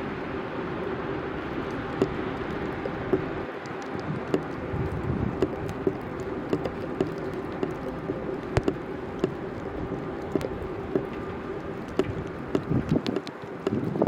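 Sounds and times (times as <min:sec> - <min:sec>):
city street hum: 0:00.0 - 0:14.0.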